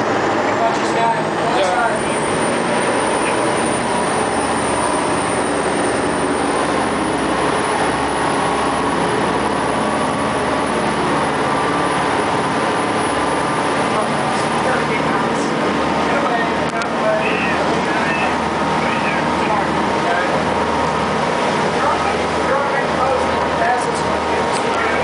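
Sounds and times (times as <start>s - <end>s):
boat engine noise: 0.0s - 25.0s
rushing wind and water: 0.0s - 25.0s.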